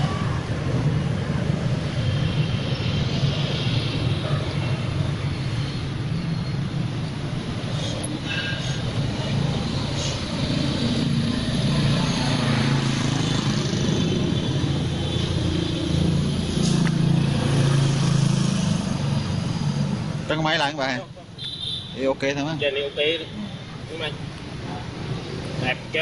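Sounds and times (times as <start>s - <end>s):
passing vehicle engines: 0.0s - 26.0s.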